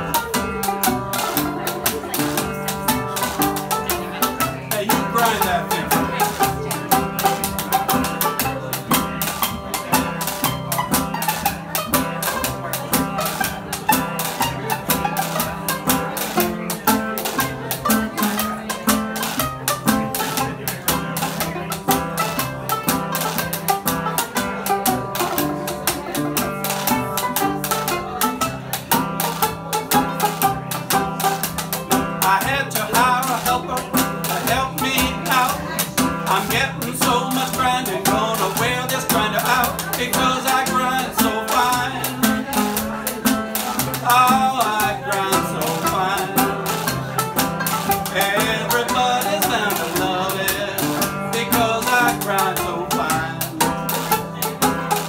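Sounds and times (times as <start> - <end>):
banjo strumming: 0.0 - 55.0
resonator guitar strumming: 0.0 - 55.0
stepping bass line: 0.0 - 55.0.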